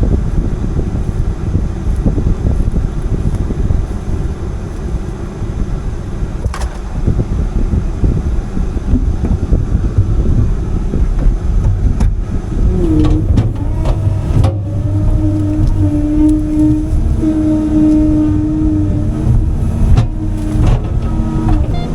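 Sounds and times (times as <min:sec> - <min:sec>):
excavator diesel engine running: 0:00.0 - 0:21.9
hydraulic whine: 0:00.0 - 0:21.9.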